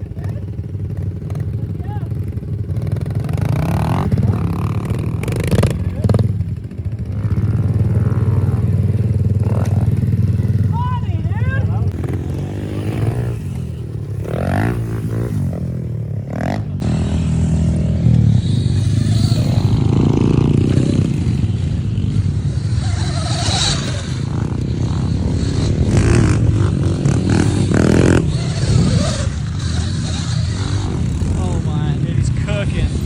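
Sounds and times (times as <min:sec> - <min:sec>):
small motorbike engine revving: 0:00.0 - 0:33.0.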